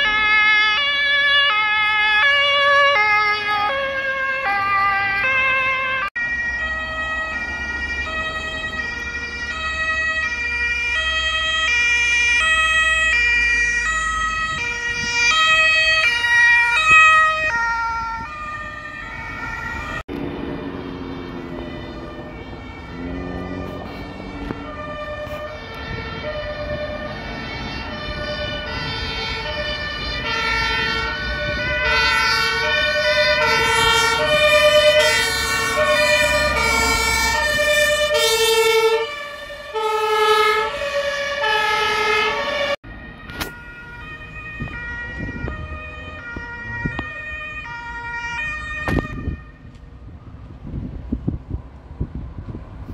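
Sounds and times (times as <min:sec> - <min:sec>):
engines and tyres rumbling: 0:00.0 - 0:52.9
two-tone emergency sirens: 0:00.0 - 0:52.9.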